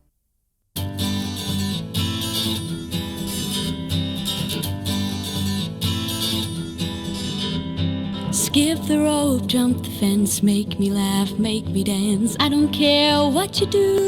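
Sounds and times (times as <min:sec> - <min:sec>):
acoustic guitar strumming: 0:00.8 - 0:14.0.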